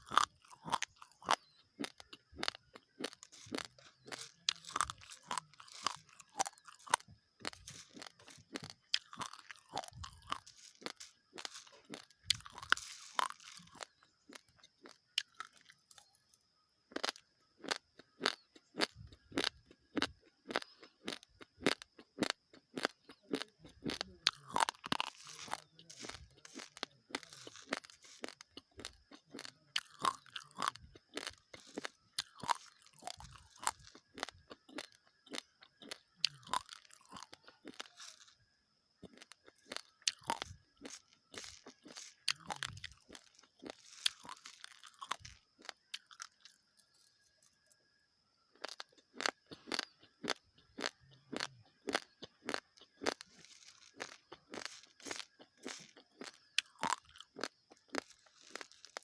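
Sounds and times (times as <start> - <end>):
chewing dry rice grains: 0.0 - 59.0.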